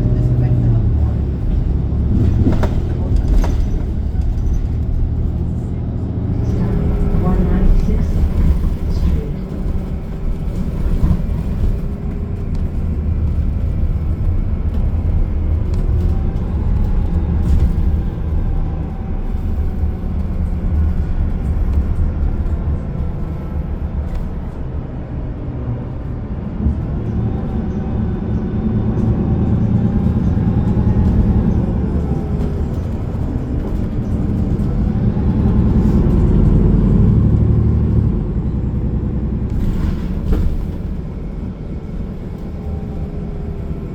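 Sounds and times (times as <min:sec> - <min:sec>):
bus engine and road rumble: 0:00.0 - 0:43.9.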